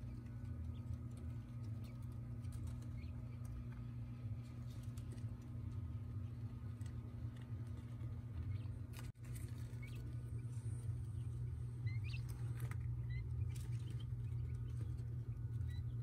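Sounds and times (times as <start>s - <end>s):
quail chicks peeping: 0.0s - 16.0s
steady low hum: 0.0s - 16.0s.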